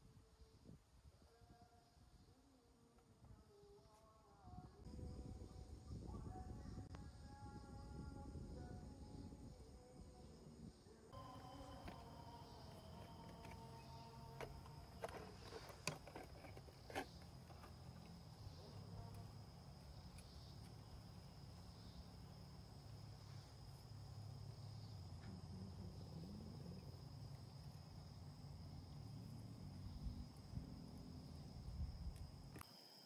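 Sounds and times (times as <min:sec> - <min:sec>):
insect buzzing: 0:04.8 - 0:33.0.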